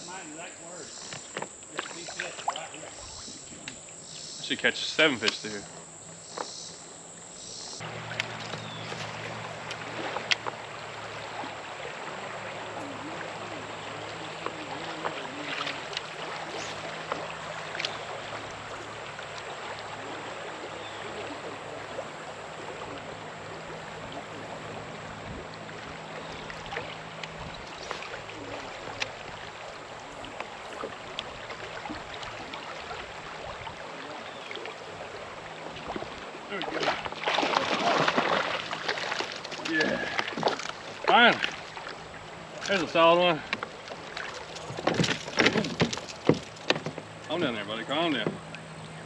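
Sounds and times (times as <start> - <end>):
creek water running over shoals: 0.0 - 49.0.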